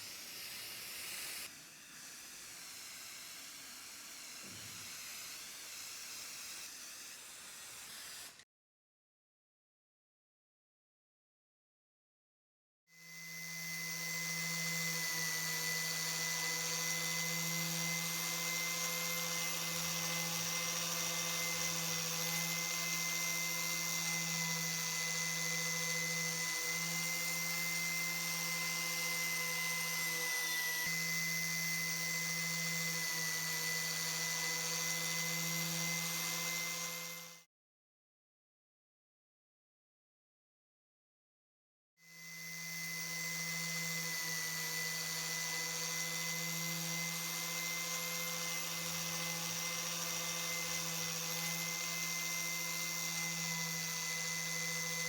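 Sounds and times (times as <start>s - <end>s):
small power tool running: 0.0s - 8.4s, 12.9s - 37.5s, 42.0s - 55.0s.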